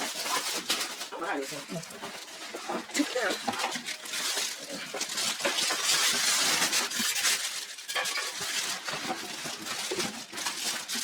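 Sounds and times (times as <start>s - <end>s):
packaging rustling and scraping: 0.0s - 11.0s.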